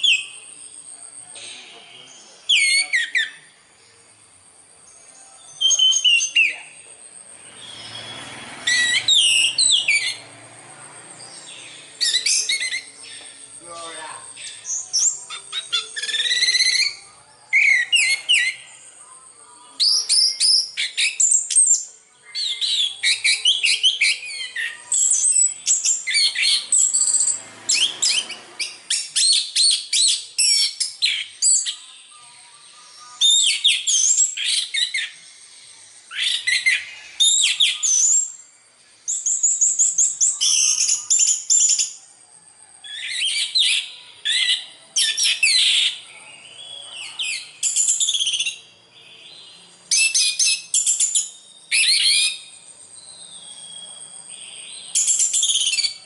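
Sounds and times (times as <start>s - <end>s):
bird singing whistles and trills: 0.0s - 56.0s.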